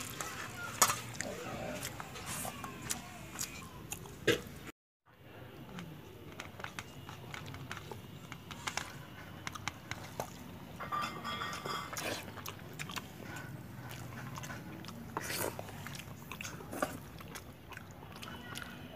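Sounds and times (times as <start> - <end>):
chewing and mouth sounds: 0.0 - 4.7, 5.7 - 18.9.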